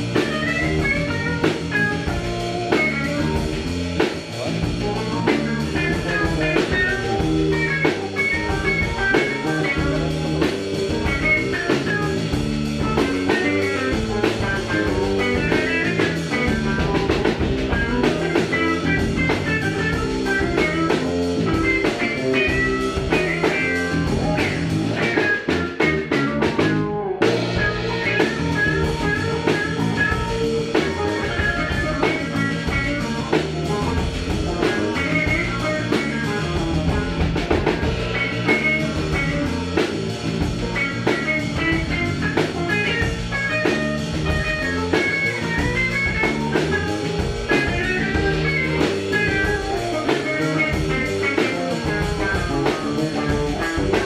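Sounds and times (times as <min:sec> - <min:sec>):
funk band playing: 0:00.0 - 0:54.0.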